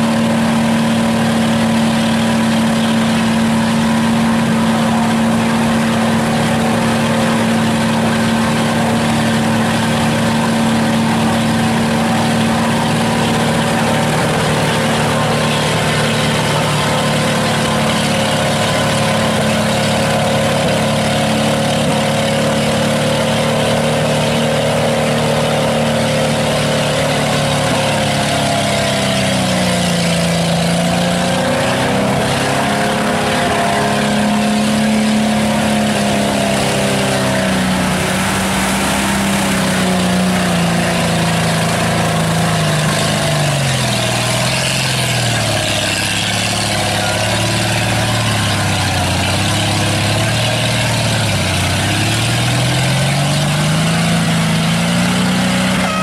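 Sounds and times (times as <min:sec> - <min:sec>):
truck engine under load: 0:00.0 - 0:56.0.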